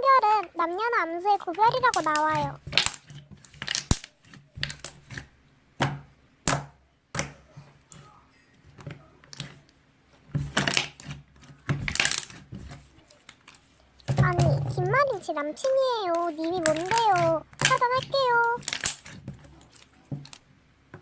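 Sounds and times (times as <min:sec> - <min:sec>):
crackling slime squishes: 0:00.0 - 0:05.4, 0:06.4 - 0:20.6.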